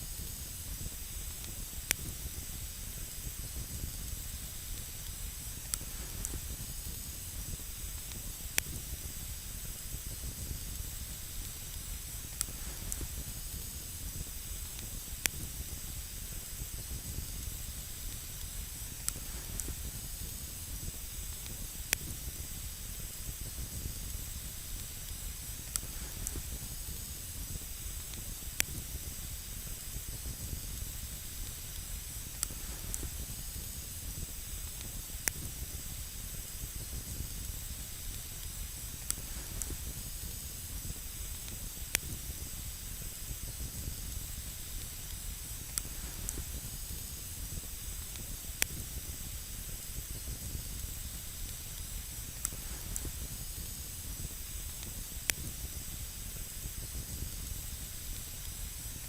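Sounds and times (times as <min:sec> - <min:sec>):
campfire hissing and popping: 0:00.0 - 0:59.0.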